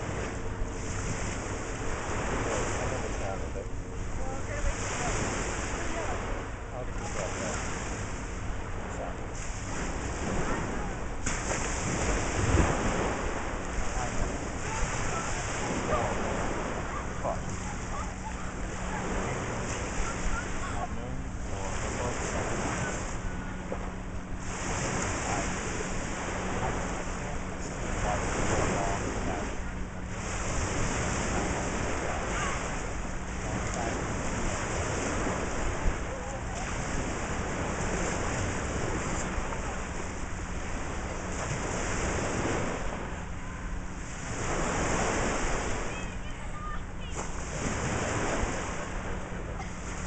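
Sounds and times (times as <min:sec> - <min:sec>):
small waves washing onto sand: 0:00.0 - 0:50.0
wind buffeting microphone: 0:00.0 - 0:50.0.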